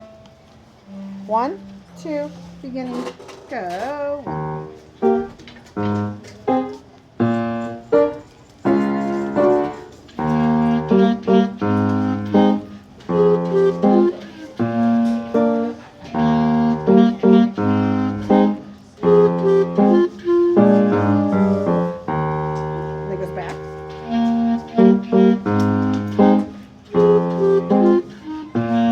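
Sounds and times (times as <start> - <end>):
instrumental melody of held notes: 0.0 - 28.9.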